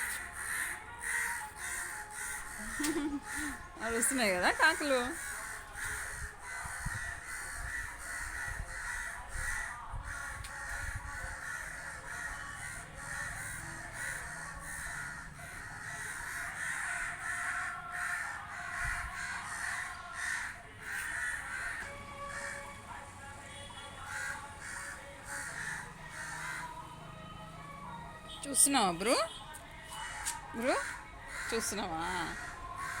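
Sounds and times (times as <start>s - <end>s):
flock of crows cawing: 0.0s - 22.8s, 23.6s - 27.0s, 29.2s - 33.0s.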